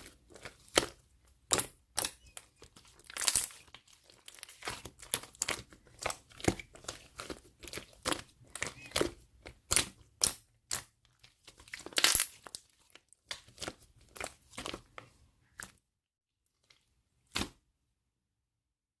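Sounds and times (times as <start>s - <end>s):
slime squished by hand: 0.0s - 15.8s.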